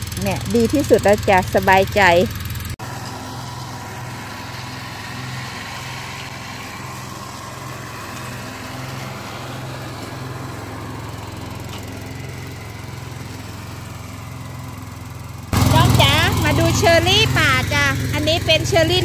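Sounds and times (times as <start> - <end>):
riding mower engine cutting grass: 0.0 - 19.0.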